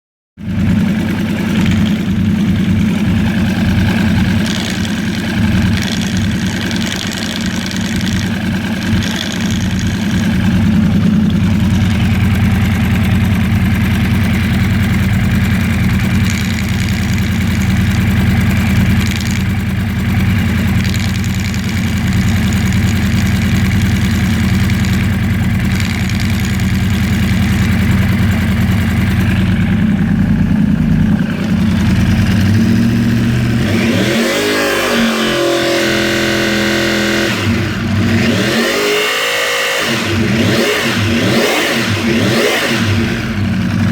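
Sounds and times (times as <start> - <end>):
motorcycle engine idling with rattle: 0.4 - 43.9.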